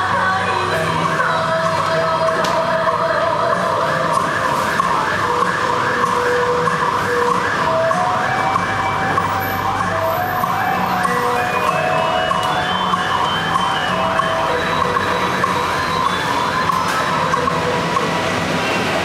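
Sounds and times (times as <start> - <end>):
dance music from loudspeaker: 0.0 - 19.0.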